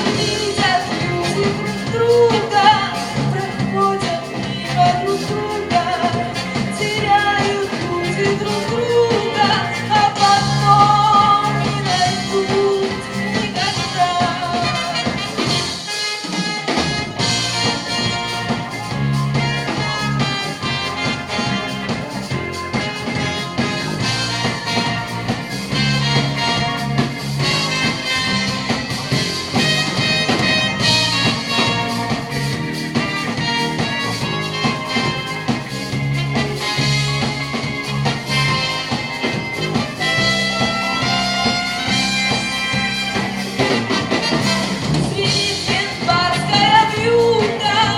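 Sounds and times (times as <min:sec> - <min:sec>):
upbeat rock and roll band: 0:00.0 - 0:47.9.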